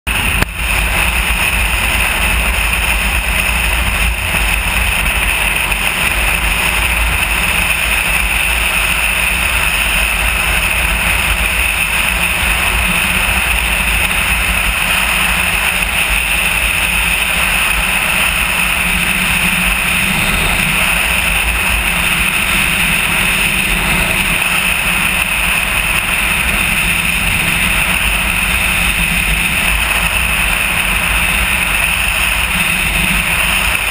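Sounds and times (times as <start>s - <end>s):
motorcycle engine rumble: 0.1s - 33.9s
wind and road noise: 0.1s - 33.9s.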